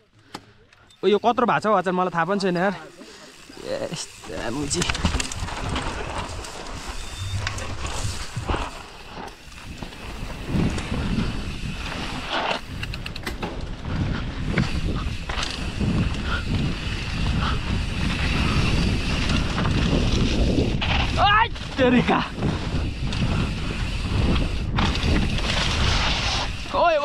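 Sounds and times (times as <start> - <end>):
bike rattling and knocking: 3.5 - 27.0
wind buffeting microphone: 4.2 - 26.8.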